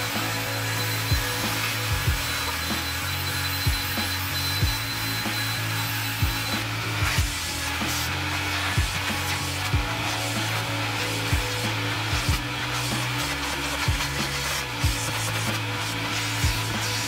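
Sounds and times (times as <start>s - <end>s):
background music with low beat: 0.0s - 17.0s
drill scrubbing wet carpet: 0.0s - 17.0s.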